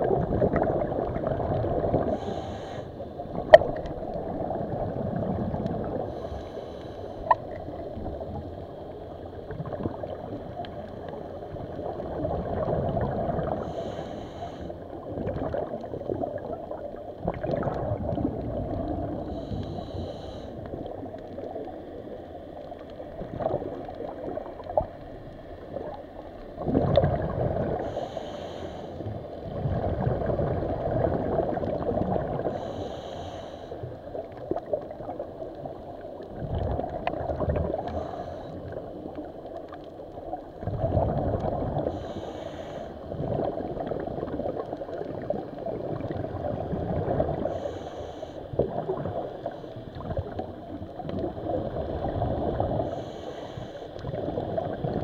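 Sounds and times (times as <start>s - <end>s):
water gurgling and bubbling: 0.0s - 14.0s, 14.8s - 22.1s, 23.0s - 28.2s, 29.1s - 33.0s, 33.8s - 42.4s, 43.0s - 53.3s, 54.0s - 55.0s.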